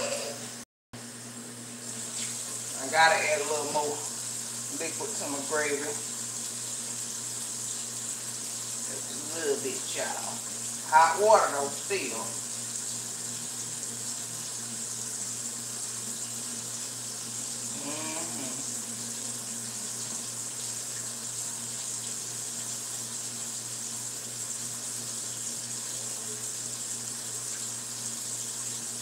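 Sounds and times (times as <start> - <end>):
pork chops sizzling in a pan: 1.8 - 17.8, 18.6 - 29.0.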